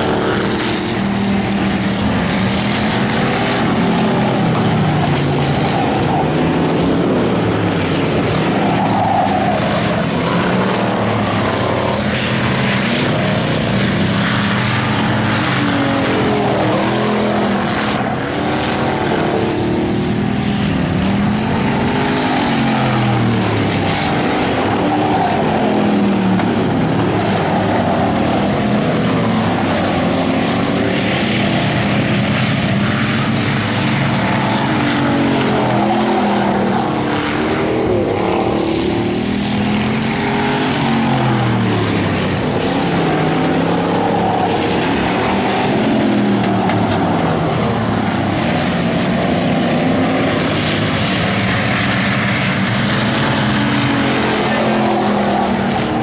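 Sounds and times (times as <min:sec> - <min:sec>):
stock car engines racing: 0:00.0 - 0:56.0.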